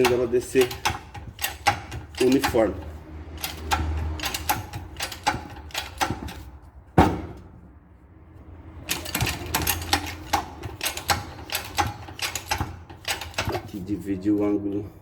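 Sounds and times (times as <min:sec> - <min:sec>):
press metallic clicks and knocks: 0:00.0 - 0:07.6, 0:08.8 - 0:13.8.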